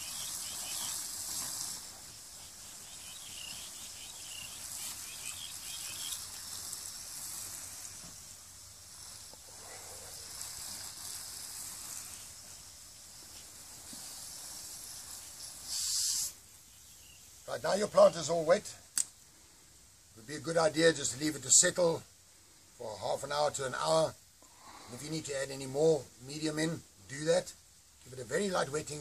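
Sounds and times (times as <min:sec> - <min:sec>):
garden hose spraying water: 0:00.0 - 0:22.6, 0:23.3 - 0:29.0.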